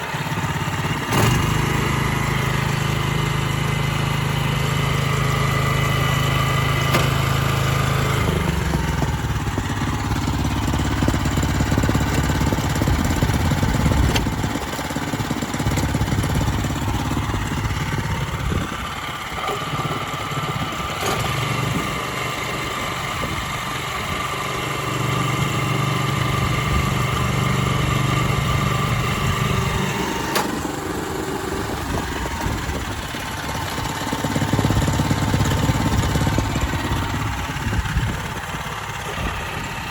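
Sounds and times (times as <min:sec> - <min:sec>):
cultivator engine running: 0:00.0 - 0:39.9.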